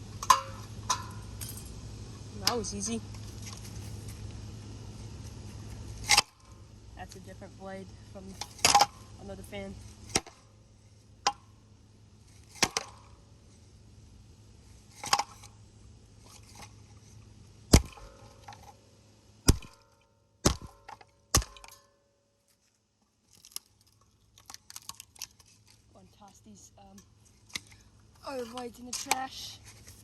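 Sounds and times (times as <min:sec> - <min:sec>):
fan blades cracking and knocking: 0:00.0 - 0:10.5, 0:12.3 - 0:13.6, 0:16.2 - 0:18.8, 0:19.4 - 0:30.0.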